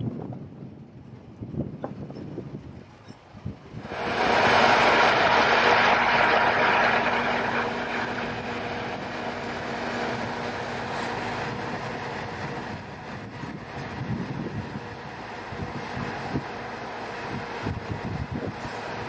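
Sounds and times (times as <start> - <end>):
diesel engine humming: 2.4 - 19.0.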